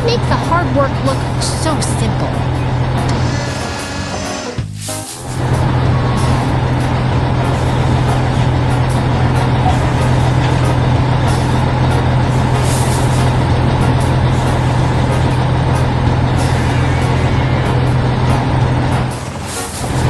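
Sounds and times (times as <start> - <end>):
background music: 0.0 - 20.0
diesel engine running: 0.0 - 20.0.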